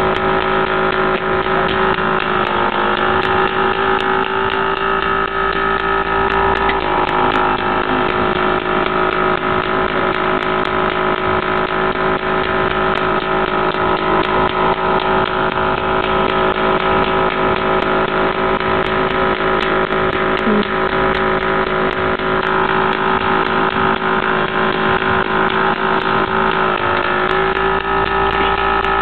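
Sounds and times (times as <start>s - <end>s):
electric suction pump humming: 0.0s - 29.0s.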